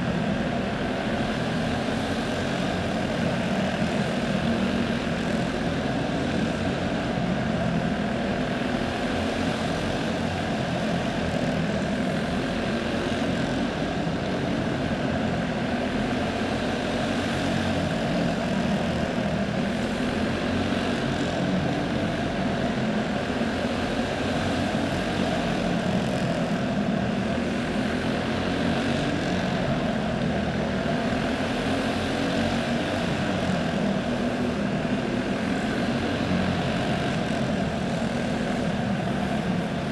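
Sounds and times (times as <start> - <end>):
kart engines droning: 0.0 - 39.9.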